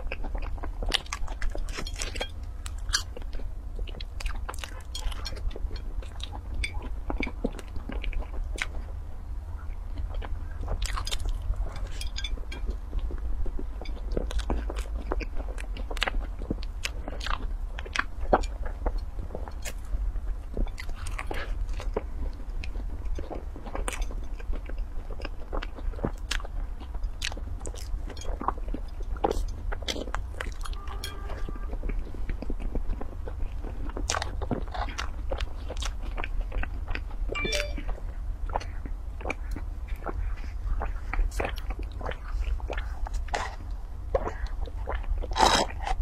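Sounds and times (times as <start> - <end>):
person chewing bread: 0.0 - 46.0.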